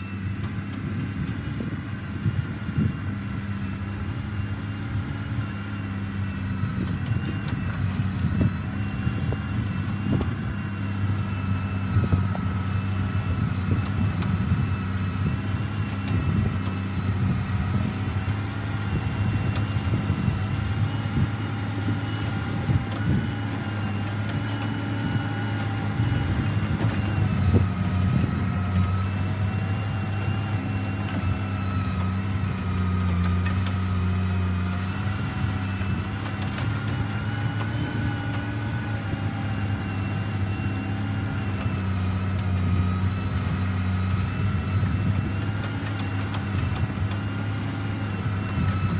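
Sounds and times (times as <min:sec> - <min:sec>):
diesel engine running: 0:00.0 - 0:48.9
thin wavering whine: 0:00.0 - 0:48.9.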